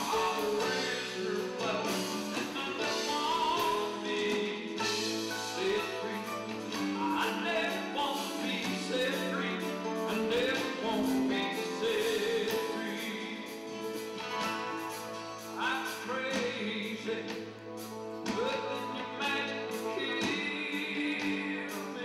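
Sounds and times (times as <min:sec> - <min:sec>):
person singing: 0:00.0 - 0:14.2, 0:14.8 - 0:22.0
acoustic guitars: 0:00.0 - 0:22.0.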